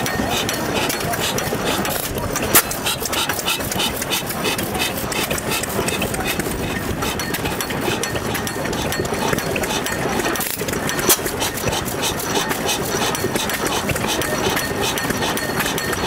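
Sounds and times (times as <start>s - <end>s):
regular engine click: 0.0s - 16.0s
stationary engine running: 0.0s - 16.0s.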